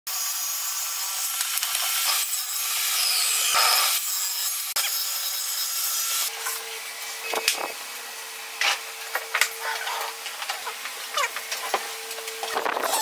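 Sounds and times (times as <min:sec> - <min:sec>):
table saw cutting wood: 0:00.1 - 0:13.0.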